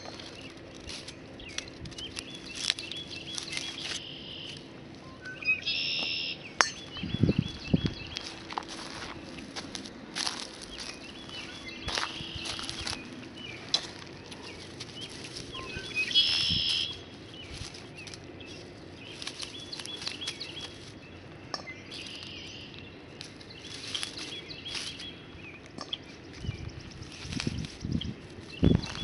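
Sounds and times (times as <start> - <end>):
birds chirping: 0.0 - 29.0
dry straw crackling and snapping: 0.0 - 29.0.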